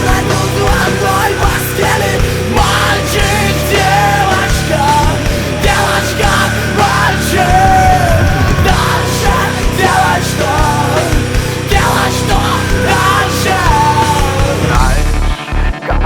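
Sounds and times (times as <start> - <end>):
person singing and shouting: 0.0 - 15.3
heavy rock band music: 0.0 - 16.0.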